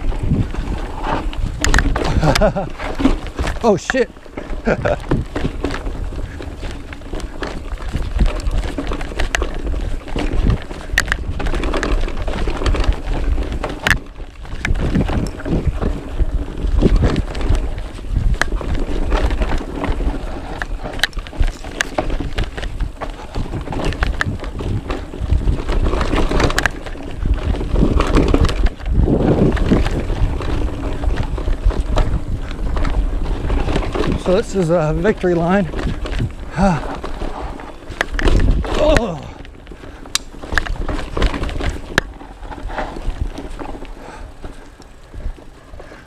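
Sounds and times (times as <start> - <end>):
bike knocking and rattling: 0.0 - 46.0
tyres rumbling on dirt: 0.0 - 46.0
wind buffeting microphone: 0.0 - 46.0.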